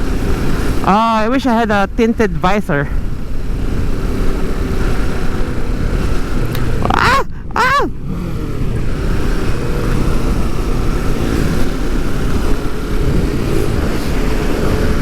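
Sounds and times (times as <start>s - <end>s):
motorcycle engine running: 0.0s - 15.0s
wind noise: 0.0s - 15.0s.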